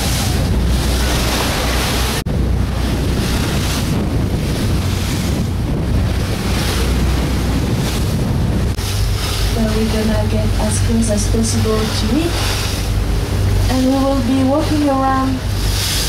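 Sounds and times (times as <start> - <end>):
low engine hum: 0.0 - 16.0
water rushing along hull: 0.0 - 16.0
wind buffeting microphone: 0.0 - 16.0.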